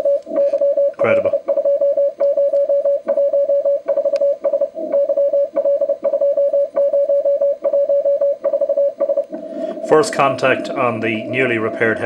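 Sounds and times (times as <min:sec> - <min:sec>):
morse code tone: 0:00.0 - 0:12.0.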